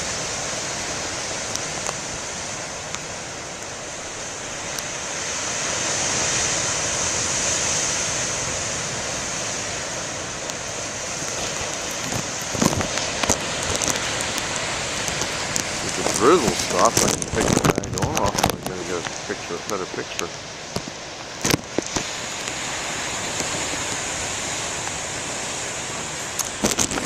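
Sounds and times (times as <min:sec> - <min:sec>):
ocean waves breaking on beach: 0:00.0 - 0:27.0.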